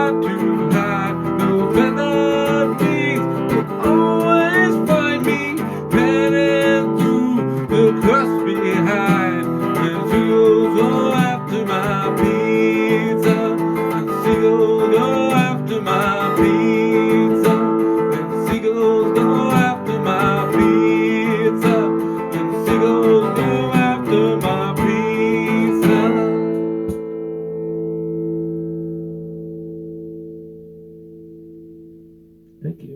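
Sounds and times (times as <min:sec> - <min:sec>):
lead guitar line: 0:00.0 - 0:32.9
strummed guitar chords: 0:00.0 - 0:32.9.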